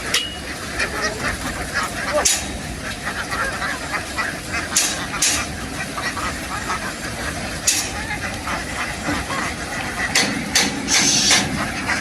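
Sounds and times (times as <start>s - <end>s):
ducks quacking: 0.0s - 12.0s
noisy background: 0.0s - 12.0s.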